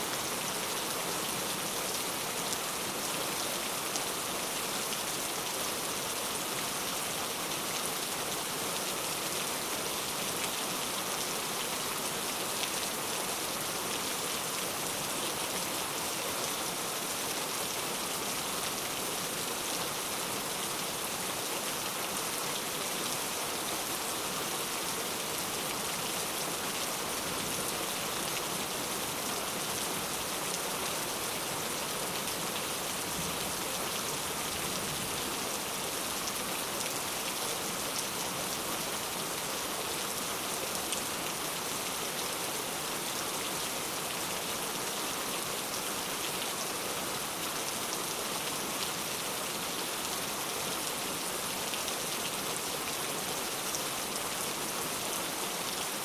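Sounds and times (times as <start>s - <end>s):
heavy rain on hard surfaces: 0.0s - 56.0s.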